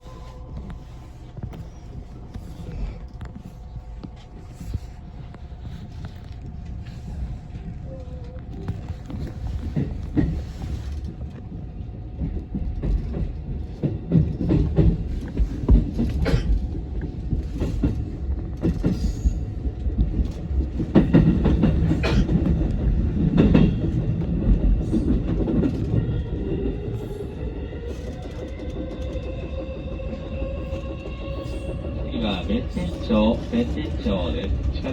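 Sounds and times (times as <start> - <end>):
train wheels rumbling on rail: 0.0 - 34.9.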